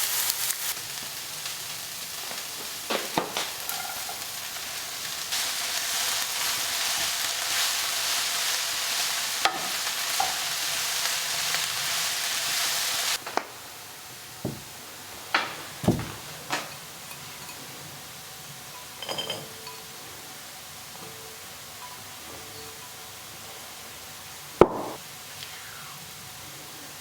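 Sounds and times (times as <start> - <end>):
food sizzling in a frying pan: 0.0 - 27.0.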